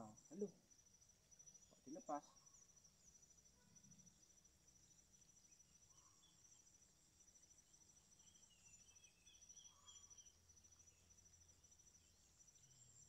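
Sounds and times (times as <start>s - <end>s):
high pulsing insect trill: 0.0s - 13.0s.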